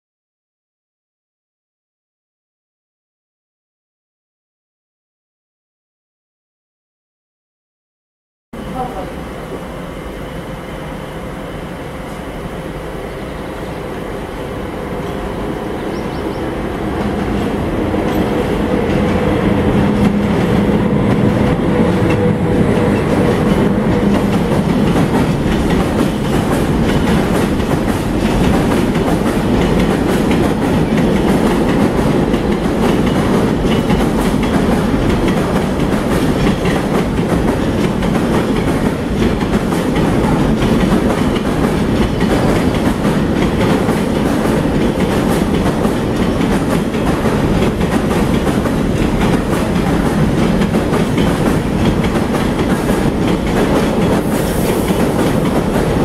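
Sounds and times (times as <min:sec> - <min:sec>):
locomotive hum: 0:08.6 - 0:56.0.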